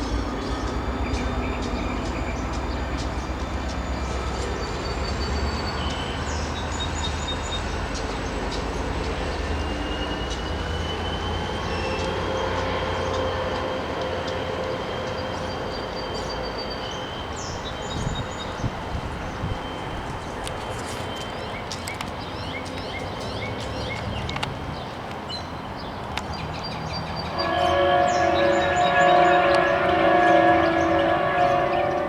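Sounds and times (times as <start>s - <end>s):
high ringing of wheels on track: 0.0s - 32.0s
train rumbling past on rails: 0.0s - 32.0s.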